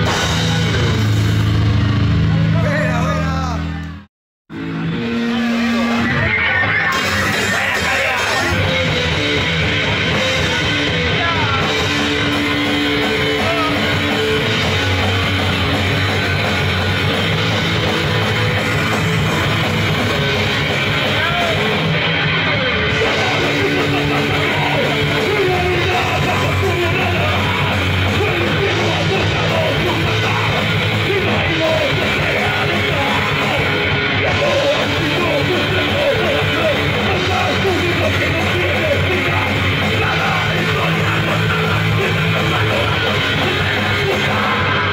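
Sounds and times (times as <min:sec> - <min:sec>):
drums: 0:00.0 - 0:44.9
electric guitar: 0:00.0 - 0:44.9
punk rock band playing: 0:00.0 - 0:44.9.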